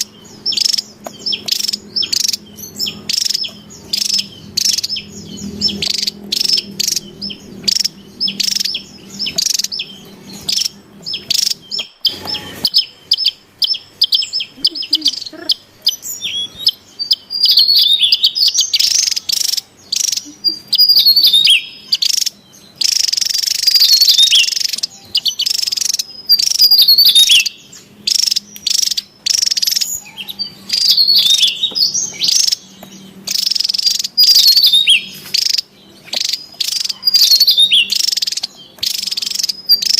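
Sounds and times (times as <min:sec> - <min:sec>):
bird chirping and whistling: 0:00.0 - 0:39.9
buzzy bird calling: 0:00.0 - 0:39.9.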